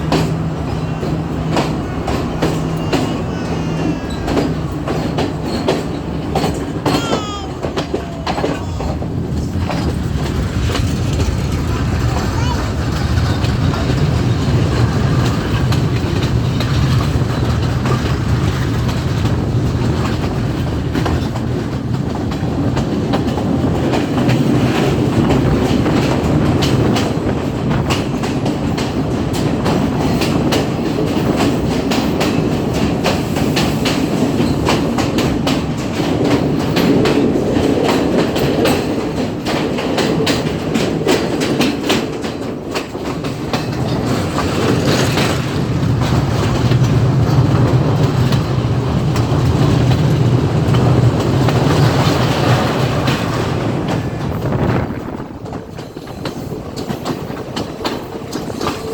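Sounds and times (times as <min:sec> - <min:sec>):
train rumbling: 0:00.0 - 0:58.9
wheel clicks over rails: 0:00.0 - 0:58.9.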